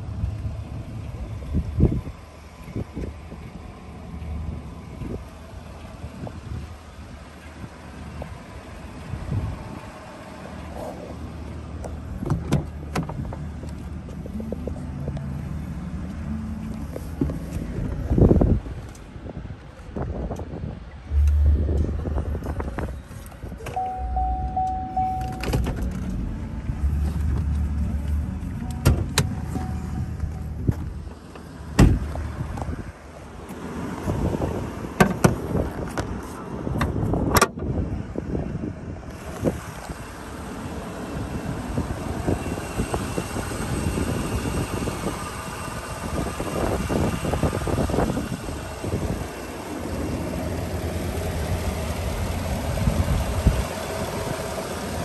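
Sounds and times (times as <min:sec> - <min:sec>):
engine idling with faint whine: 0:00.0 - 0:33.6, 0:36.7 - 0:55.0
pickup engine and road rumble: 0:00.0 - 0:55.0.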